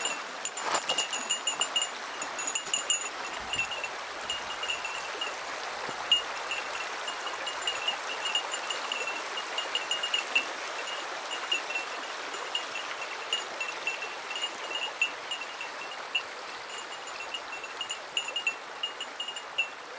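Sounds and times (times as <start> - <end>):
stream babbling over stones: 0.0 - 19.9.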